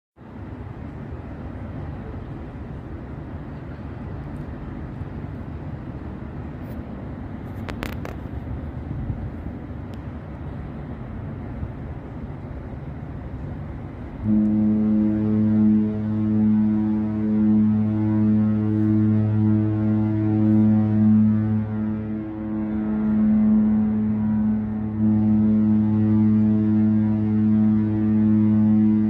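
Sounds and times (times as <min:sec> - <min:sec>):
low rumble of ship: 0:00.1 - 0:29.0
deep ship's horn blast: 0:01.2 - 0:29.0.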